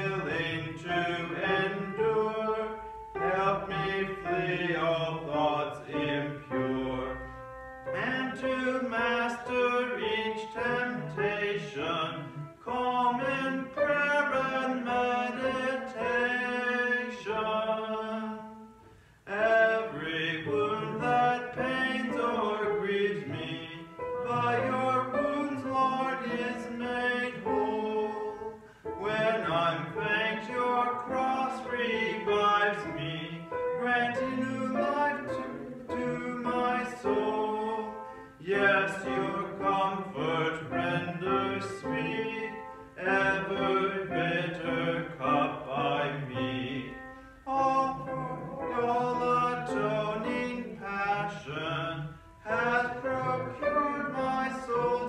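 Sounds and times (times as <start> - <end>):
man singing a hymn: 0.0 - 55.0.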